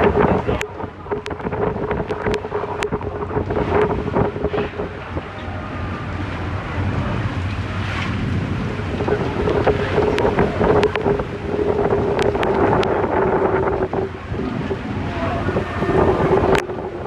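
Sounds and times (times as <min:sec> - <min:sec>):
ferry engine hum: 0:00.0 - 0:17.0
rain and water noise: 0:00.0 - 0:17.0
wind buffeting microphone: 0:00.0 - 0:17.0.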